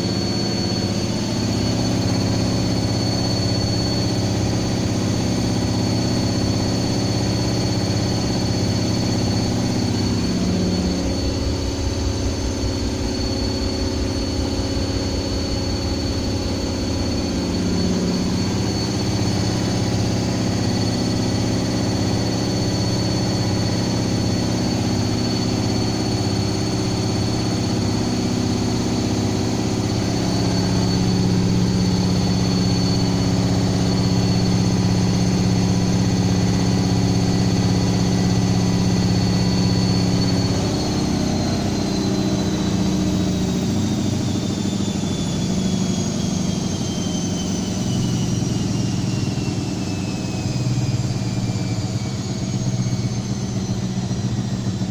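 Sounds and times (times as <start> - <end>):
thin high whine: 0.0 - 54.9
washing machine motor hum: 0.0 - 54.9.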